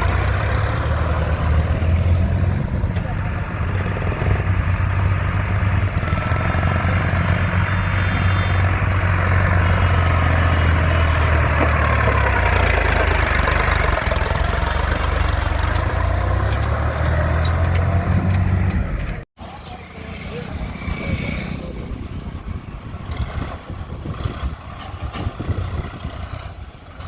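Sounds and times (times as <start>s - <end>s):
tractor diesel engine running: 0.0s - 20.4s, 21.8s - 27.0s.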